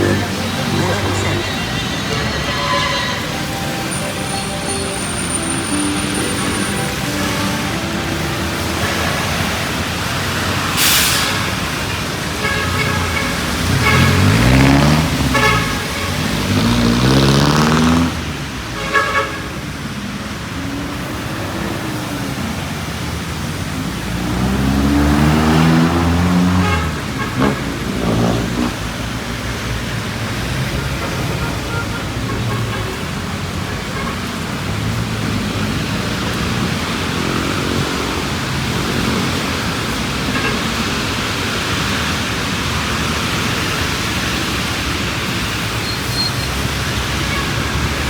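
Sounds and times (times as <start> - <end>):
vehicles passing by: 0.0 - 48.0.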